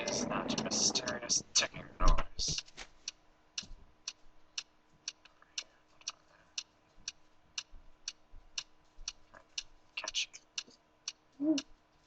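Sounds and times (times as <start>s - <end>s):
clock ticking: 0.0s - 2.7s, 3.6s - 11.7s.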